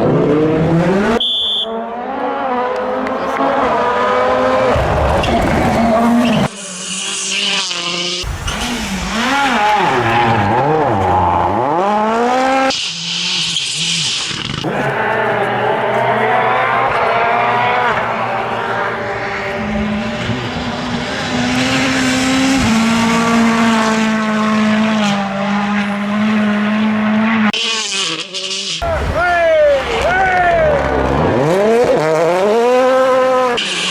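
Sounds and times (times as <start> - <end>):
rally car engines revving: 0.0 - 33.9.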